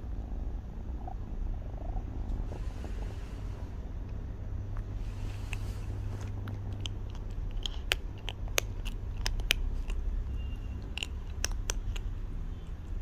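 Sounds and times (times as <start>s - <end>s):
steady low hum: 0.0s - 13.0s
kitten crunching kibble: 1.8s - 13.0s.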